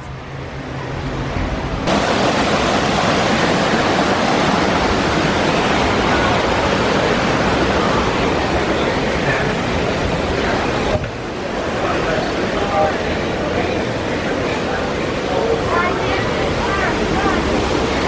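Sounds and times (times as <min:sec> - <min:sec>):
falling water roaring: 0:00.4 - 0:18.0.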